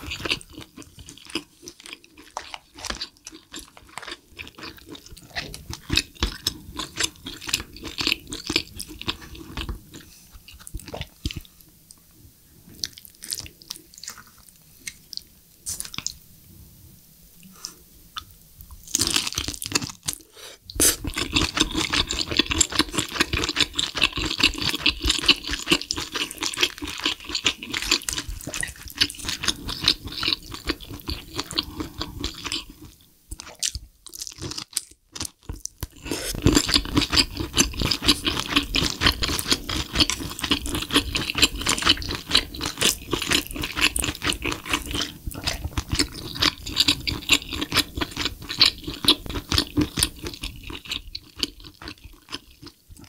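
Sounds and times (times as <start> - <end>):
wet chewing: 0.0 - 11.5, 12.8 - 16.2, 18.2 - 53.0.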